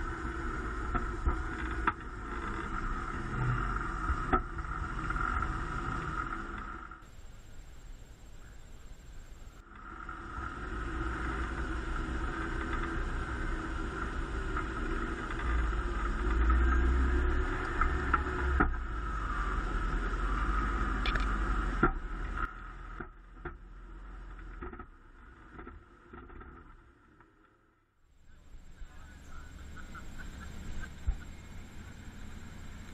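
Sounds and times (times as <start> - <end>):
truck engine rumbling under load: 0.0 - 26.2, 28.1 - 32.9.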